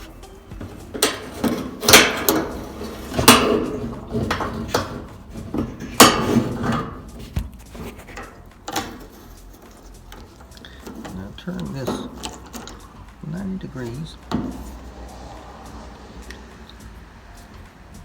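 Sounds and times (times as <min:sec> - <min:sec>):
metal clanking and clicking: 0:00.0 - 0:18.0.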